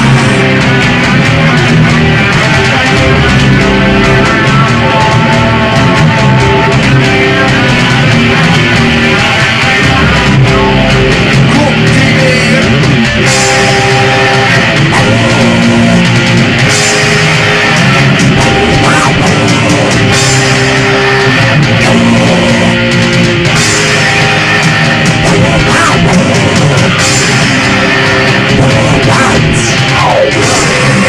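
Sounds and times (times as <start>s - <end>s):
distorted electric guitar chords: 0.0s - 31.0s
drum kit: 0.0s - 31.0s.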